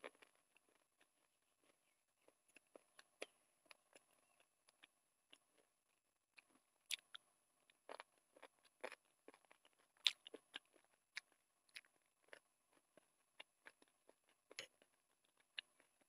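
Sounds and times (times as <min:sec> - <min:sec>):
wet chewing mouth sounds: 0:00.0 - 0:16.0.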